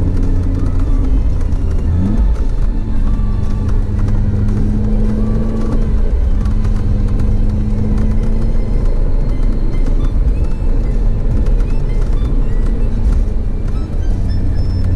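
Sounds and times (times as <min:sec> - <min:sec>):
car engine drone: 0:00.0 - 0:14.9
low road rumble: 0:00.0 - 0:14.9.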